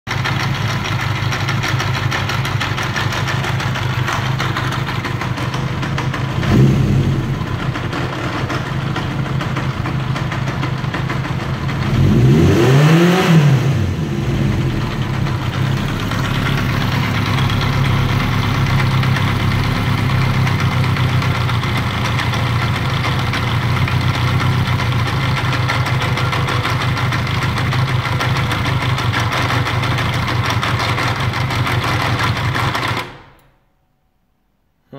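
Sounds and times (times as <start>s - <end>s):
motorcycle engine idling and revving: 0.1s - 33.4s.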